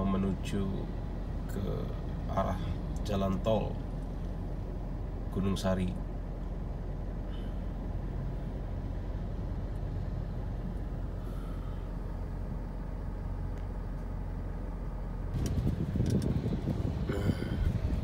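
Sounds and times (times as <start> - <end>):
car engine drone: 0.0 - 18.0
road hum: 0.0 - 18.0.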